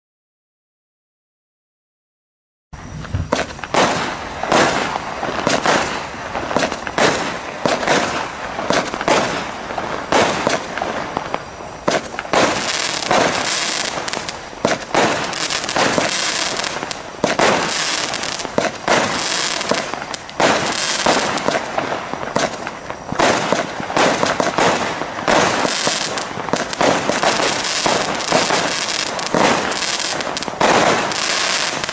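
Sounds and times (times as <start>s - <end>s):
fireworks firing and crackling: 2.8s - 31.9s.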